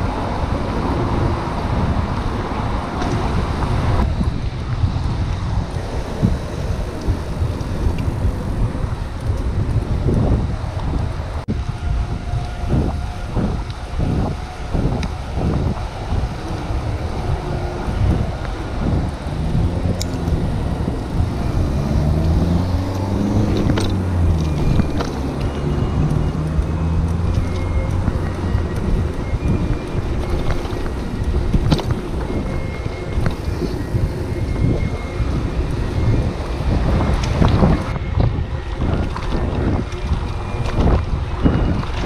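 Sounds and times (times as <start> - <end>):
motor vehicle engine: 0.0 - 41.7
traffic noise: 0.0 - 42.0
wind rushing over microphone: 0.0 - 42.0.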